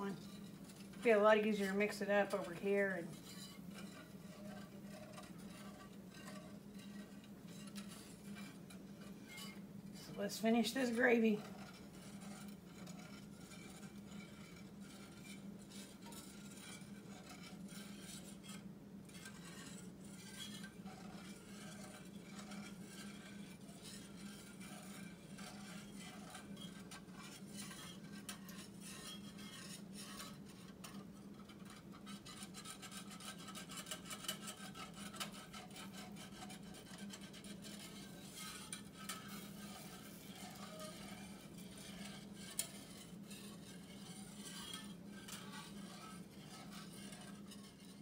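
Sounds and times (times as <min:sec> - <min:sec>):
low steady hum: 0:00.0 - 0:47.9
whisk scraping a skillet: 0:00.0 - 0:48.0.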